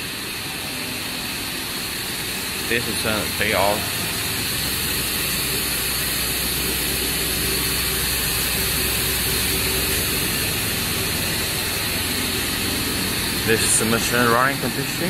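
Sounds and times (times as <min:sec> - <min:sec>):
machinery hum and hiss: 0:00.0 - 0:15.0.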